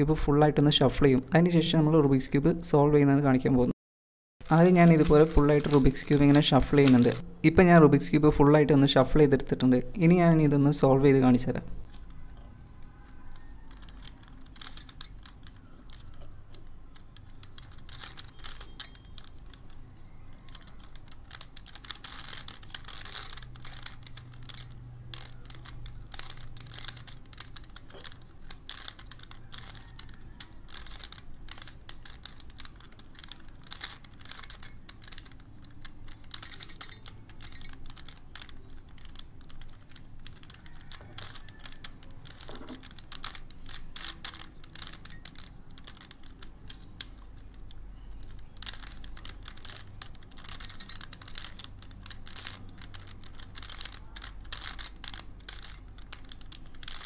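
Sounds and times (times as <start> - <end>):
puzzle cube plastic clicks: 4.4 - 57.0.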